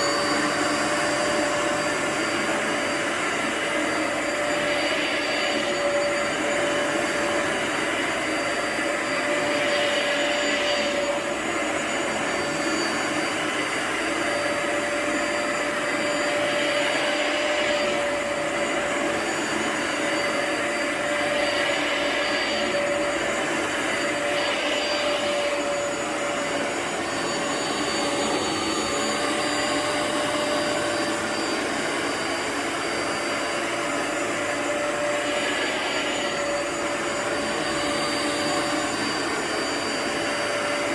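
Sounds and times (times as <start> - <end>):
vacuum motor whine: 0.0 - 40.9.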